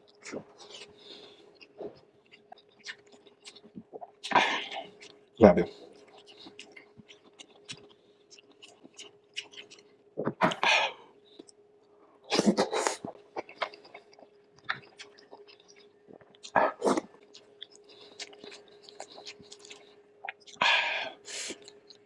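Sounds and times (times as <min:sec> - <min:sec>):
person chewing with wet smacking: 0:00.0 - 0:11.6, 0:12.2 - 0:22.0.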